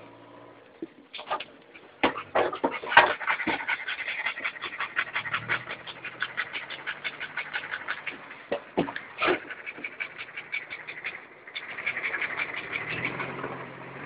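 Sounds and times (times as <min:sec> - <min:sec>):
dog huffing: 0:01.2 - 0:13.4
dog panting: 0:01.2 - 0:13.5.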